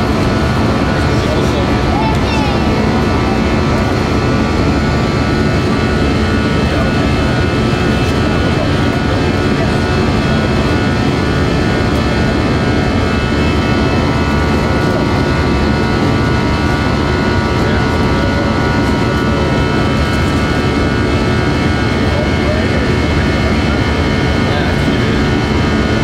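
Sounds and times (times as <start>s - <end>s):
jet engines heard from cabin: 0.0s - 26.0s.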